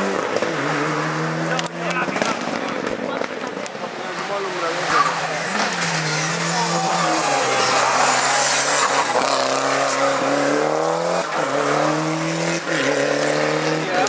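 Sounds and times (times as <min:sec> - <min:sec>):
rally car engine upshifting: 0:00.0 - 0:14.0.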